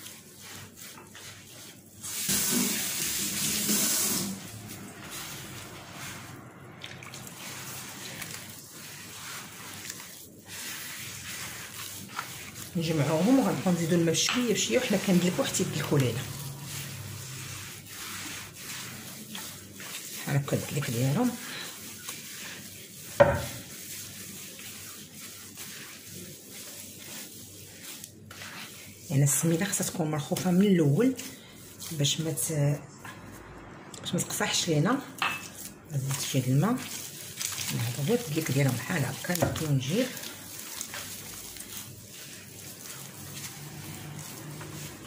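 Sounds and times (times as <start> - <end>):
hands squishing dough: 0.0 - 3.0, 4.4 - 45.0.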